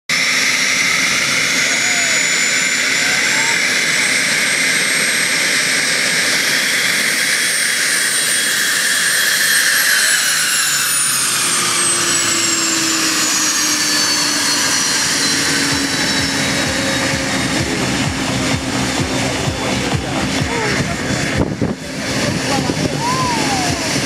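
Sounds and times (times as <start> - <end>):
jet engines whining at taxi power: 0.1 - 24.0.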